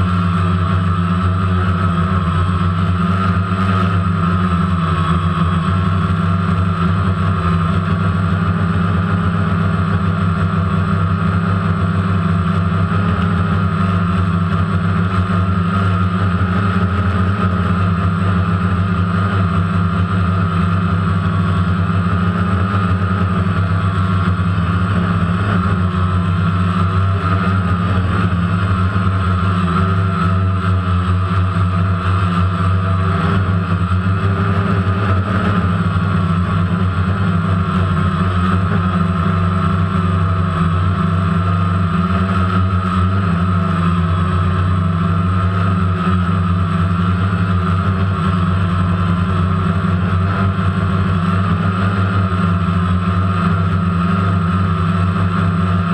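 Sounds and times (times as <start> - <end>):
drone motors humming and whining: 0.0 - 55.9.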